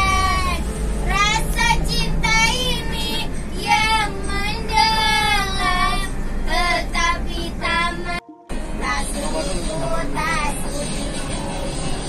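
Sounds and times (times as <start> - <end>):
low rumble of moving bus: 0.0 - 12.0.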